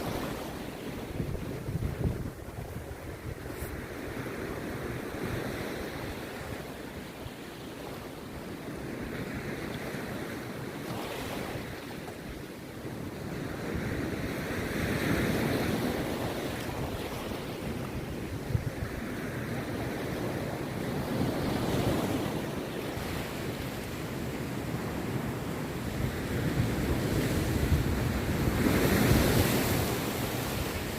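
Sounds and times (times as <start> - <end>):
sea waves breaking on beach: 0.0 - 30.9.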